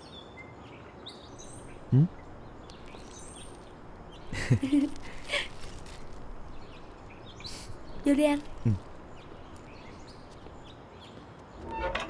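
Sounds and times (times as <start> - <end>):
birds chirping: 0.6 - 12.0.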